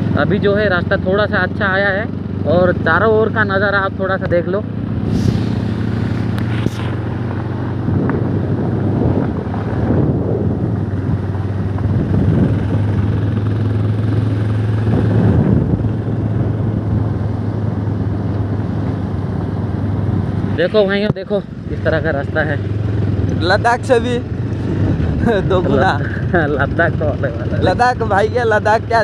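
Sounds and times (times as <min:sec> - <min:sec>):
motorcycle engine humming: 0:00.0 - 0:29.0
wind and road noise: 0:00.0 - 0:29.0.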